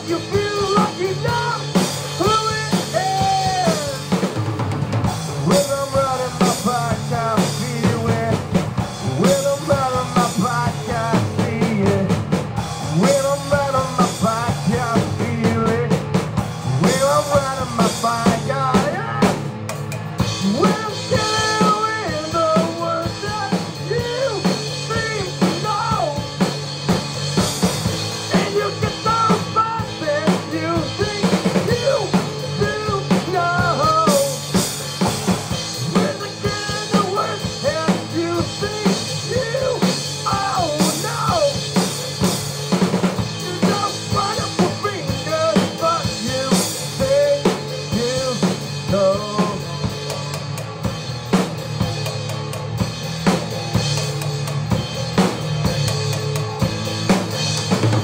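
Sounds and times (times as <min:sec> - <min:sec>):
drum kit steady beat: 0:00.0 - 0:58.0
rock band music: 0:00.0 - 0:58.0.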